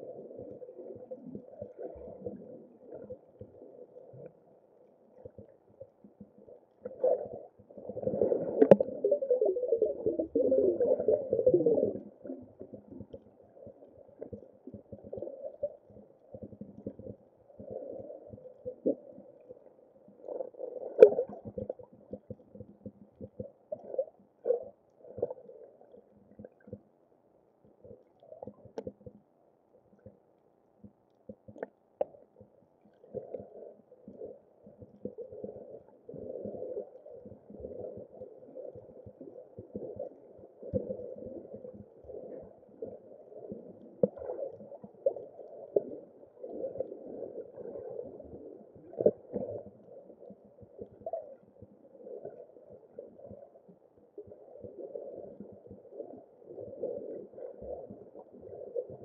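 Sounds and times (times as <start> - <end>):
underwater bubbles gurgling: 0.0 - 26.9, 27.6 - 30.2, 30.8 - 59.0.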